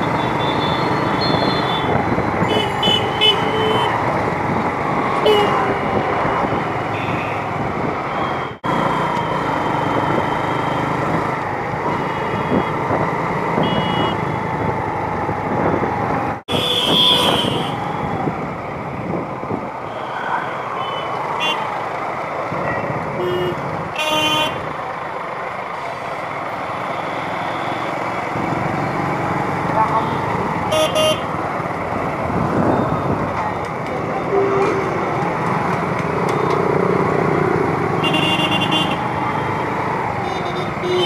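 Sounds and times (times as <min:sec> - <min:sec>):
motorbike engine and road noise: 0:00.0 - 0:41.0.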